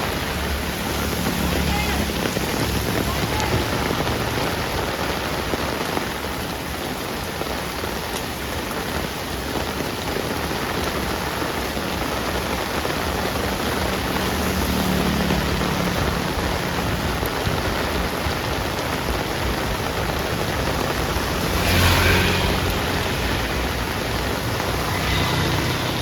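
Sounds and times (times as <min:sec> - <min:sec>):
heavy rain on a street: 0:00.0 - 0:26.0.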